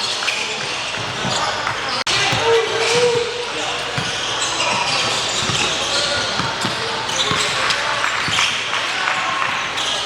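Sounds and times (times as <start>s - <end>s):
people chattering and calling: 0.4s - 10.0s
basketball bouncing on hardwood: 0.6s - 10.0s.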